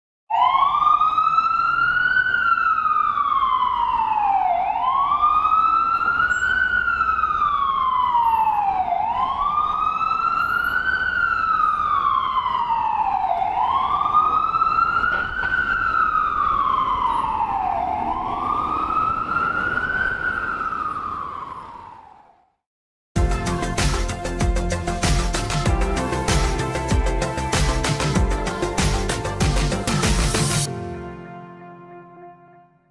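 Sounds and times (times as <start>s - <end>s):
ambulance siren wailing: 0.3s - 22.5s, 24.0s - 30.9s.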